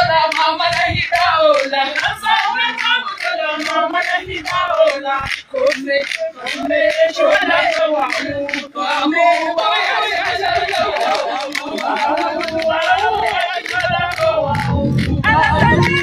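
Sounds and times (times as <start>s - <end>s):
group of people chanting: 0.0s - 16.0s.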